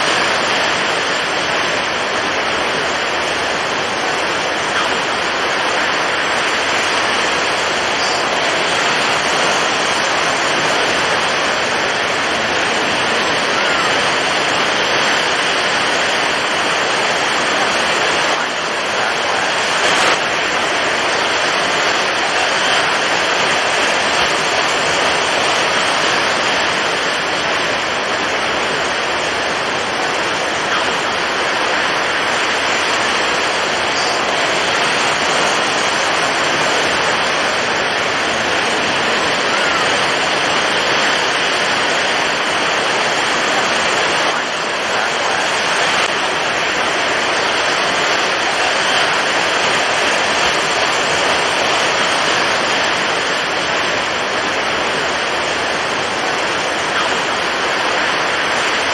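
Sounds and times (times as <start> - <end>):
heavy surf: 0.0 - 58.9
strong wind: 0.0 - 58.9.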